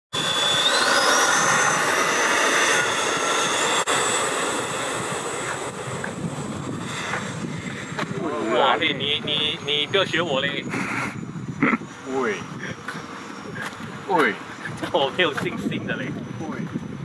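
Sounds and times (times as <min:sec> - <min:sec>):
electric ducted fan whining: 0:00.1 - 0:17.0.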